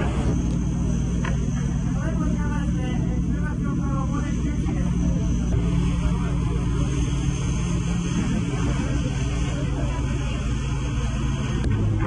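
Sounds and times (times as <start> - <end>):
armoured vehicle engine drone: 0.0 - 12.0.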